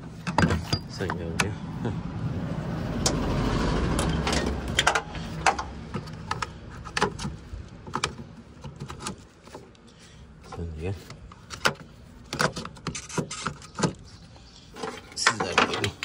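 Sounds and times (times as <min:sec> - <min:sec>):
hose couplings clicking and knocking: 0:00.0 - 0:01.6, 0:04.0 - 0:09.8, 0:10.4 - 0:16.0.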